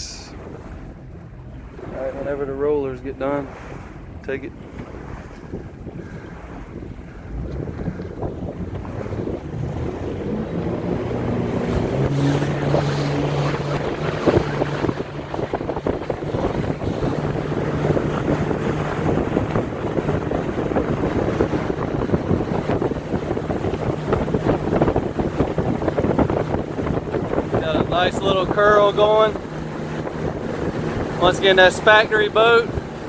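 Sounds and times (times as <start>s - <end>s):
boat engine drone: 0.0s - 33.0s
rushing water: 0.0s - 33.0s
wind buffeting microphone: 0.0s - 33.0s.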